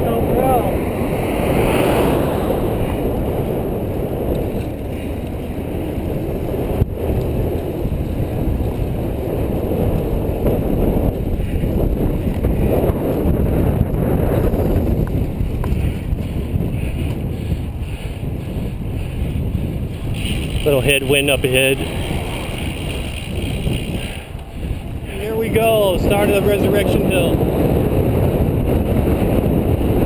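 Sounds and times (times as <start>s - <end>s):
road noise: 0.0s - 30.0s
wind buffeting microphone: 0.0s - 30.0s.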